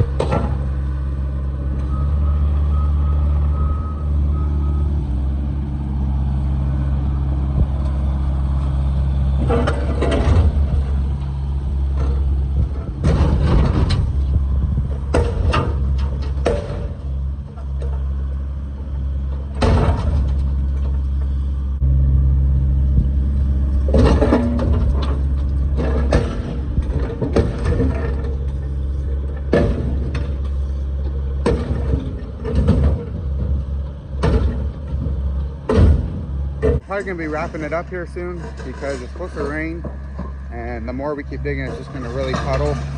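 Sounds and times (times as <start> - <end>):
metallic clanking and scraping: 0.0 - 2.0, 7.6 - 21.9, 22.9 - 42.9
diesel engine running: 0.0 - 42.9.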